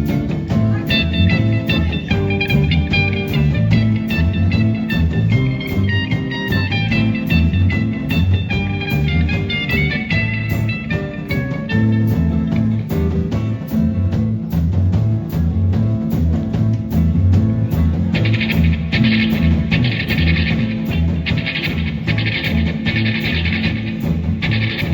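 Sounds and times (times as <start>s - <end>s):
bass line: 0.0s - 24.9s
guitar lead line: 0.0s - 24.9s
steady drum beat: 0.0s - 24.9s.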